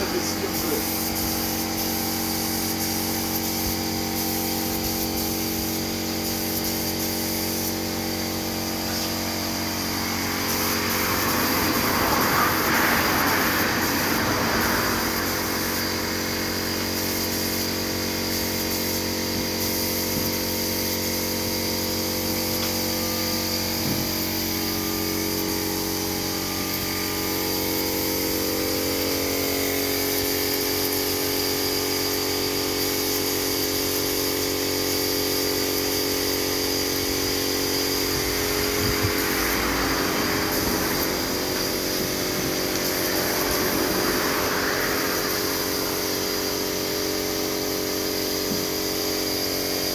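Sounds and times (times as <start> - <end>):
air compressor humming: 0.0 - 49.9
spray gun hissing: 0.0 - 49.9.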